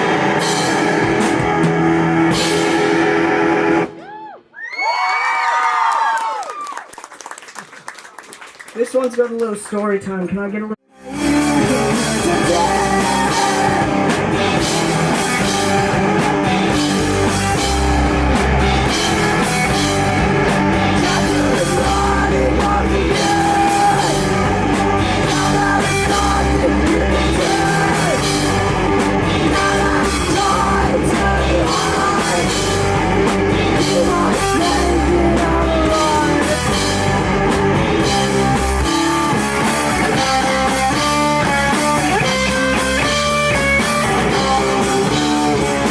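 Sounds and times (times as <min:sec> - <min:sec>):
punk rock band playing: 0:00.0 - 0:04.1, 0:10.9 - 0:45.9.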